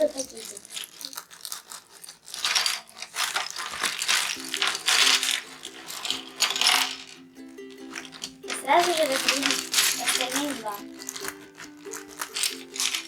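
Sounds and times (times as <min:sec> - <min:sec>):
plastic bag crinkling: 0:00.0 - 0:13.0
scissors cutting plastic bag: 0:00.0 - 0:13.0.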